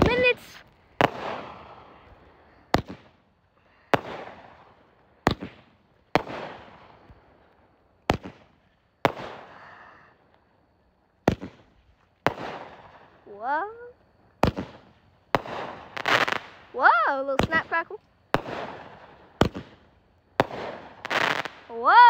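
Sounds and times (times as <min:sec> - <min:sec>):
fireworks bangs with echo: 0:00.0 - 0:03.2, 0:03.8 - 0:07.2, 0:08.0 - 0:09.7, 0:11.2 - 0:13.2, 0:14.4 - 0:22.0.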